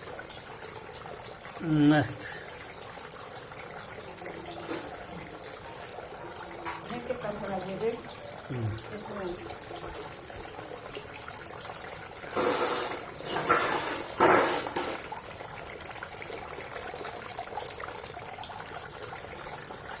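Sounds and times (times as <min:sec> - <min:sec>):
water fountain splashing: 0:00.0 - 0:20.0.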